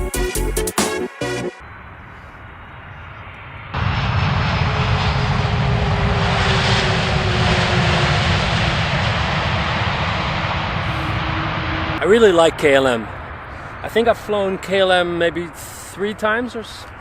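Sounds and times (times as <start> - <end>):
jet airliner engines whining: 1.6 - 17.0.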